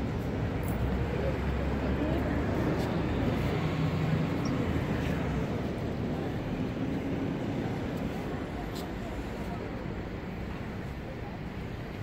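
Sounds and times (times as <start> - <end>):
low rumble of passing traffic: 0.0 - 12.0.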